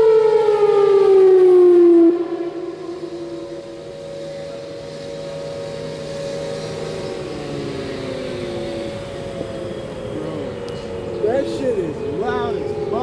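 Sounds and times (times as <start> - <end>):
distant warning sirens: 0.0 - 13.0.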